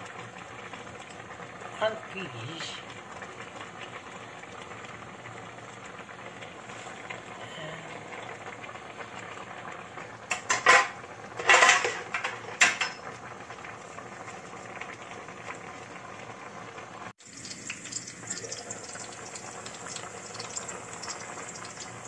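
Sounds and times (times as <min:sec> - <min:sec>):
vegetables simmering in pot: 0:00.0 - 0:22.0.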